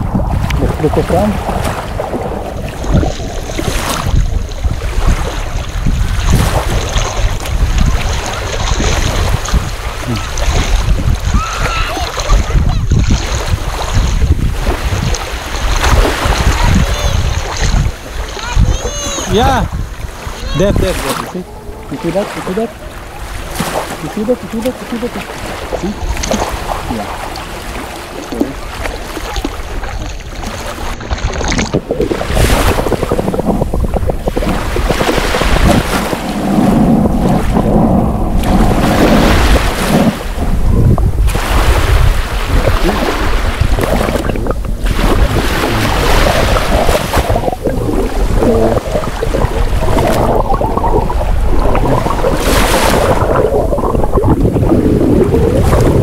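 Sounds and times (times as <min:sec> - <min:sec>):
water sloshing over microphone: 0:00.0 - 0:56.0.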